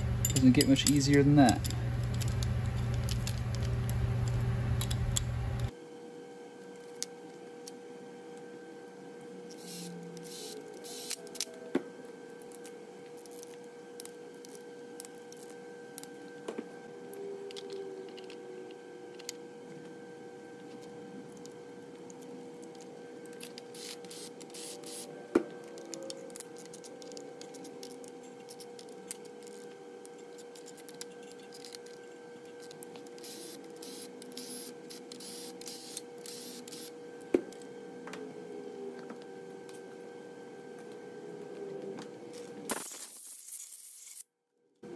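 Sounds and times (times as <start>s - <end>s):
steady background hum: 0.0s - 44.9s.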